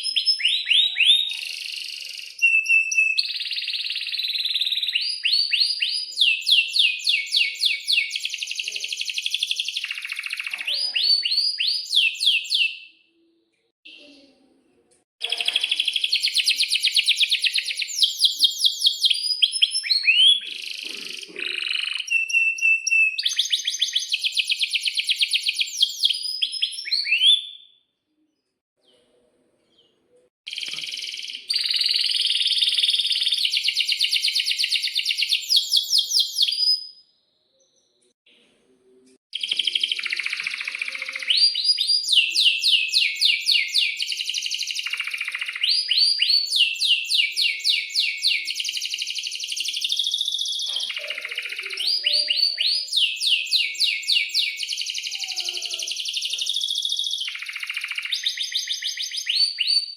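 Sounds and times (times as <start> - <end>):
canary singing: 0.0 - 13.3, 15.2 - 27.8, 30.5 - 37.1, 39.3 - 59.9.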